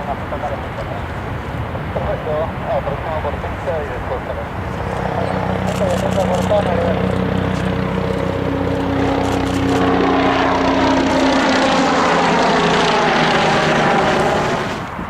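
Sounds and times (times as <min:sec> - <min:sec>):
aircraft engine hum: 0:00.0 - 0:15.0
aircraft rushing noise: 0:00.0 - 0:15.0.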